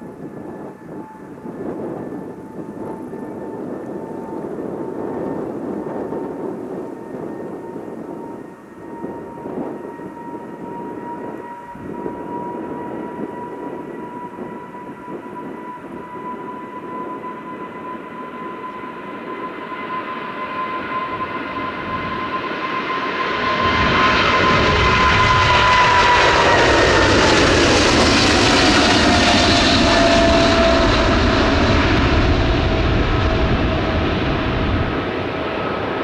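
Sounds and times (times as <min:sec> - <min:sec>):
jet engines whining and rumbling: 0:00.0 - 0:36.0.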